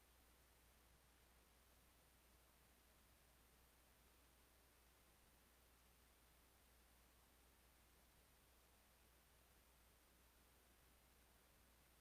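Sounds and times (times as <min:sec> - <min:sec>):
faint steady hiss: 0:00.0 - 0:12.0
low electrical hum: 0:00.0 - 0:12.0.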